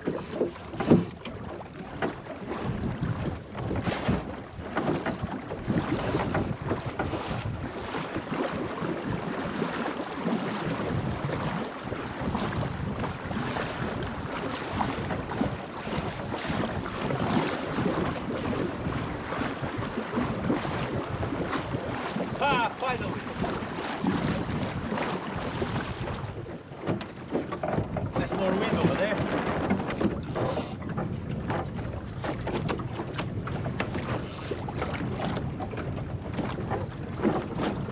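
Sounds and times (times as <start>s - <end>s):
water rushing along a hull: 0.0s - 37.9s
wind buffeting microphone: 0.0s - 37.9s.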